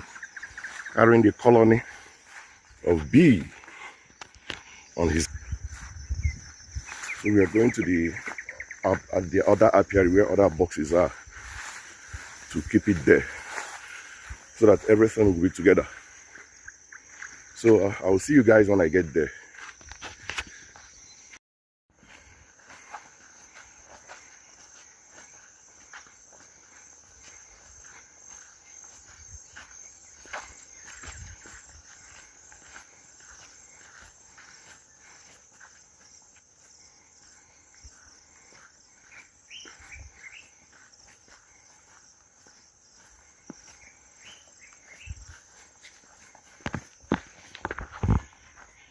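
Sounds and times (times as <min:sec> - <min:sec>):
crickets chirring: 0:00.0 - 0:48.9
faint footsteps: 0:00.0 - 0:48.9.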